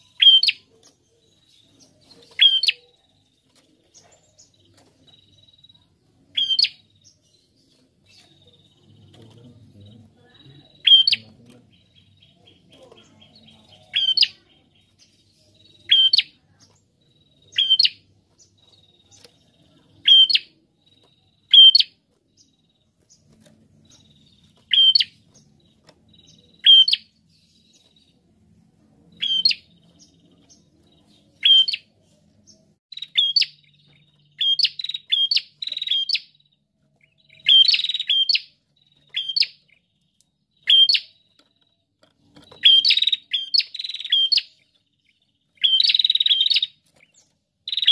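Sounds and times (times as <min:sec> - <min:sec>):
songbird chirping: 0:00.0 - 0:47.9.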